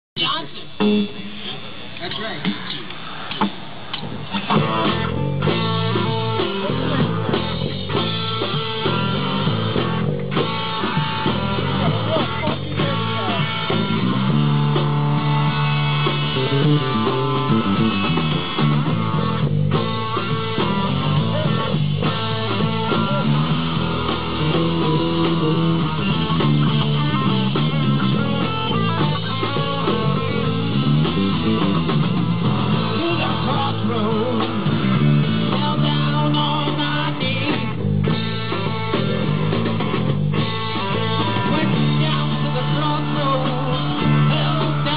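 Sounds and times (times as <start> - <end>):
electric bass: 0.0 - 44.9
drum kit: 0.2 - 44.9
electric guitar: 0.2 - 44.9.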